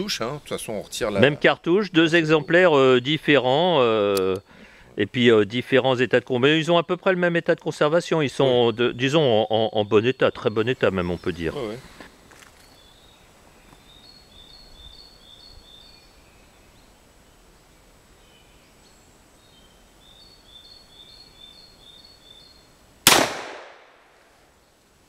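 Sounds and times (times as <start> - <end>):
bird chirping: 0.0 - 22.8.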